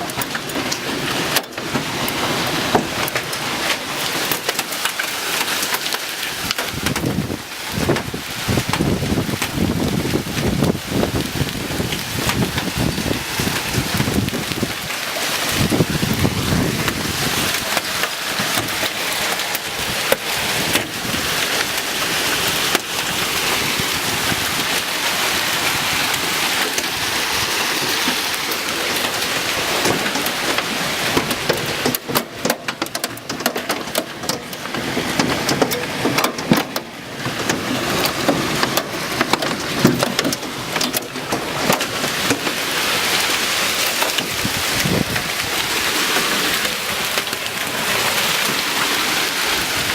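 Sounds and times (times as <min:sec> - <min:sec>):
hail and rain hissing: 0:00.0 - 0:49.9
hailstones clicking: 0:00.0 - 0:49.9.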